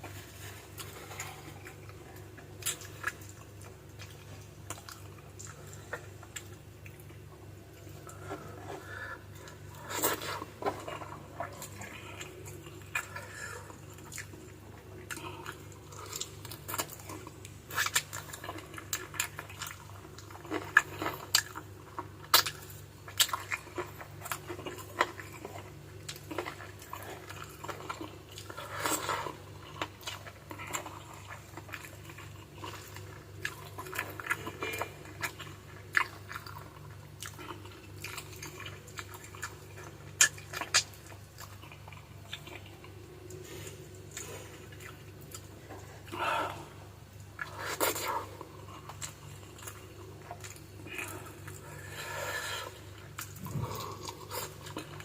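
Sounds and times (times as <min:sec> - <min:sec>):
steady low hum: 0:00.0 - 0:55.0
wet chewing: 0:00.0 - 0:55.0.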